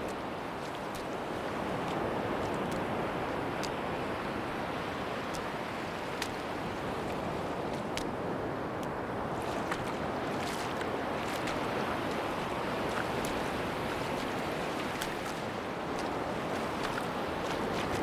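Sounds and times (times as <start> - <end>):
sea surf washing on beach: 0.0 - 18.0
wind: 0.0 - 18.0.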